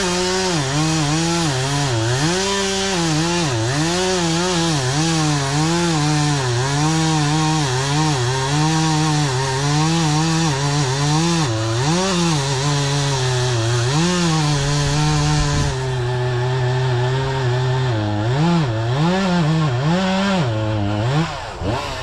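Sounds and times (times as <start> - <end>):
chainsaw cutting wood: 0.0 - 22.0.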